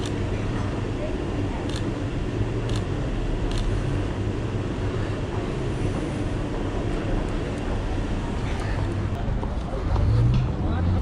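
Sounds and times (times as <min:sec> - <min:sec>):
low city rumble: 0:00.0 - 0:11.0.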